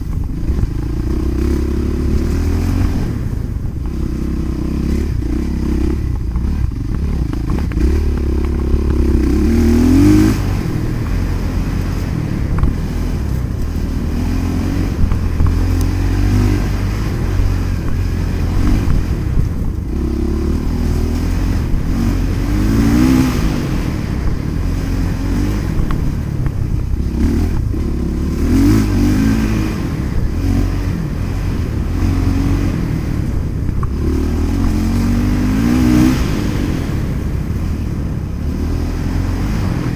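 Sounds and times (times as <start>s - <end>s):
dirt bike engines revving: 0.0s - 39.9s
steady low rumble: 0.0s - 39.9s.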